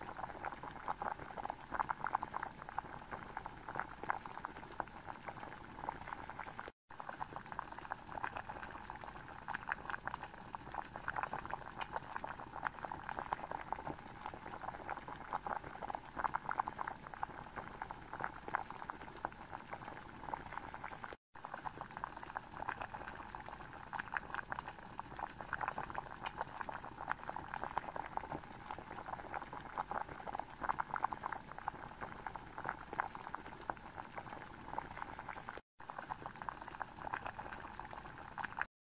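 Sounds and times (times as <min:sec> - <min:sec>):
curry sauce bubbling in a pan: 0:00.0 - 0:38.7.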